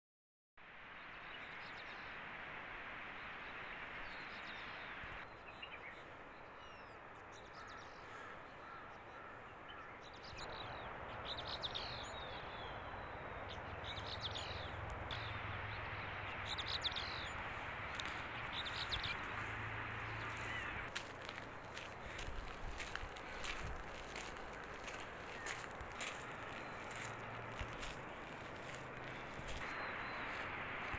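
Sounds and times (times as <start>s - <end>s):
birds chirping: 3.2s - 30.9s.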